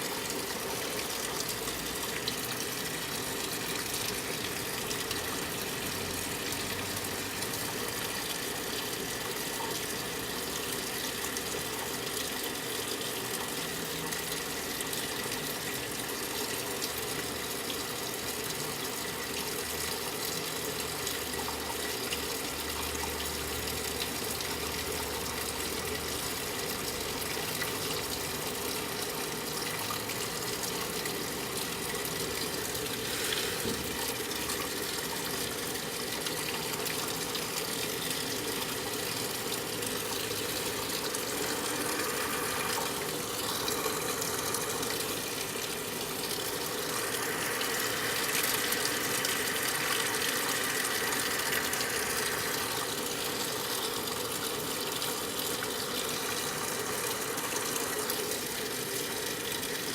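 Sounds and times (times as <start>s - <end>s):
water gushing into washing machine: 0.0s - 59.9s.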